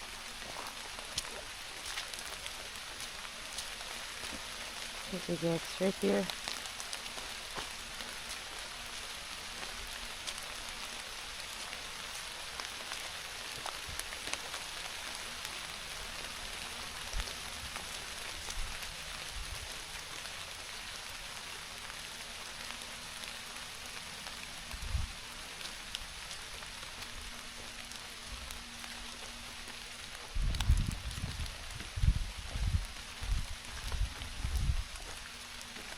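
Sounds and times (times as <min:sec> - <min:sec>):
rain falling on leaves: 0:00.0 - 0:35.9.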